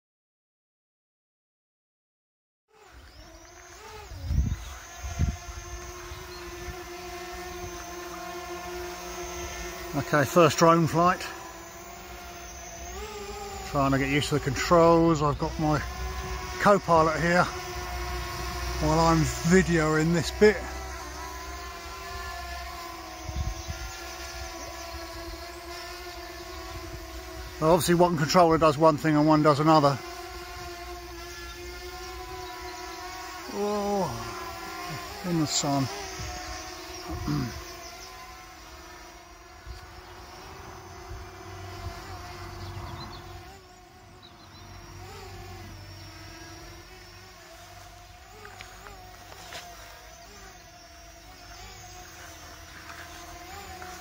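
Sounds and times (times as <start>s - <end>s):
drone rotors whining: 2.7s - 54.0s.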